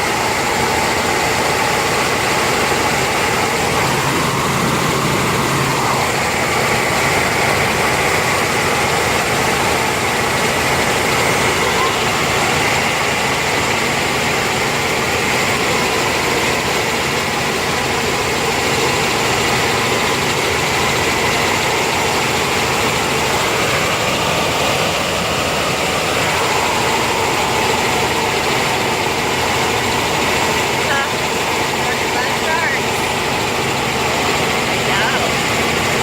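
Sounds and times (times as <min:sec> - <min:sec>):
helicopter engine and rotor drone: 0:00.0 - 0:36.0
high whine: 0:00.0 - 0:36.0.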